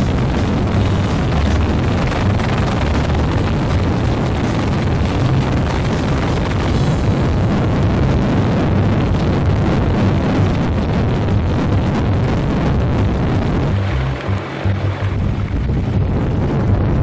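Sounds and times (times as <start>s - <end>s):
helicopter rotor roar: 0.0s - 16.7s.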